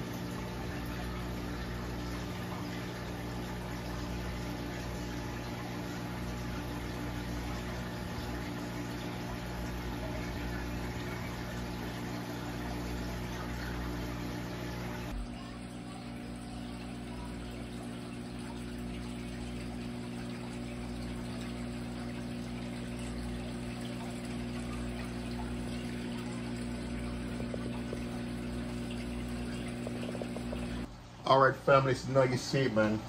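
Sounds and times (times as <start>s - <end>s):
water rushing and trickling: 0.0s - 31.3s
pump hum: 0.0s - 33.0s.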